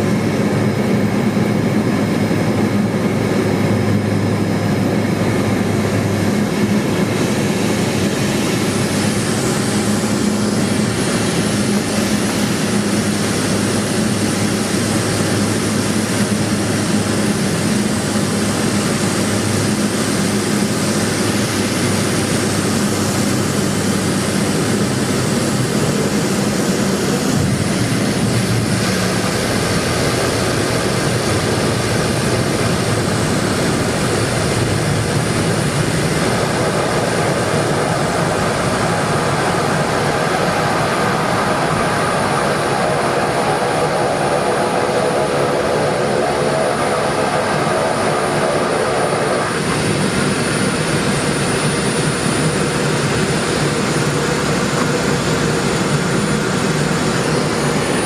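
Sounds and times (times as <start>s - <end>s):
propeller and engine drone: 0.0s - 58.0s.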